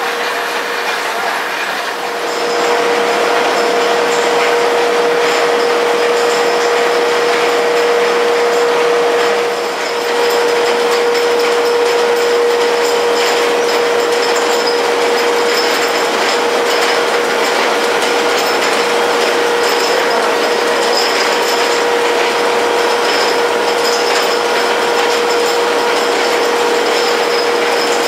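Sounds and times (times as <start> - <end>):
machinery clatter and rattle: 0.0 - 28.0.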